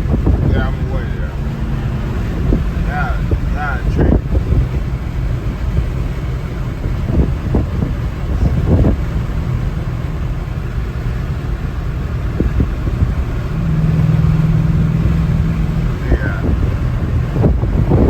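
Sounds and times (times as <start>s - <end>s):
car exhaust drone: 0.0s - 18.0s.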